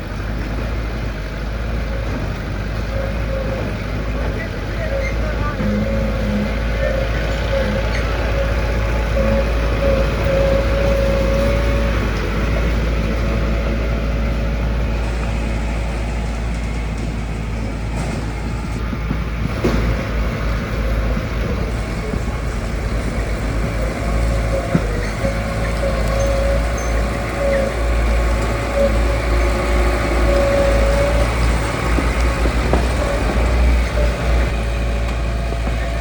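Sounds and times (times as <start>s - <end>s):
heavy machinery engine noise: 0.0s - 36.0s.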